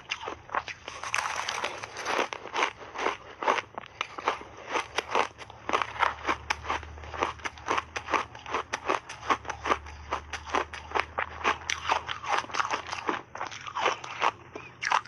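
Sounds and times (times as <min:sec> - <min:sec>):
chewing crunchy ice: 0:00.0 - 0:15.0.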